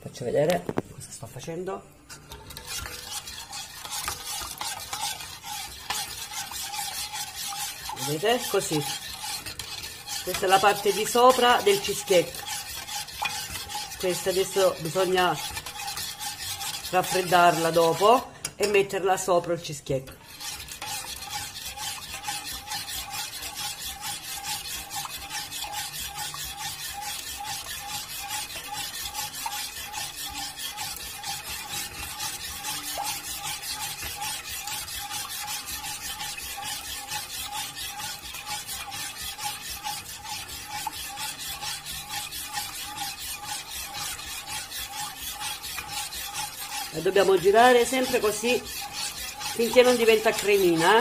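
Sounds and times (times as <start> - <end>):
metal spoon scraping a pot: 0.0 - 51.0.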